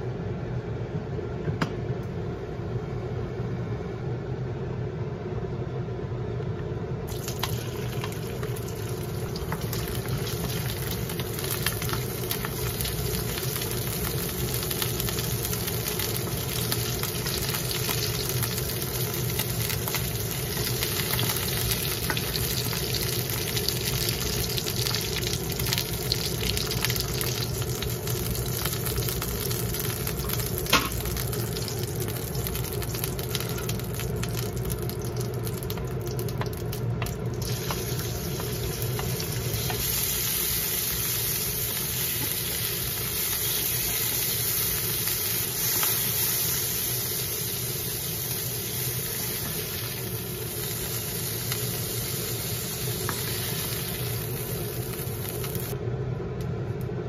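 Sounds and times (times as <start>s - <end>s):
food sizzling in oil in a wok: 7.1s - 55.8s.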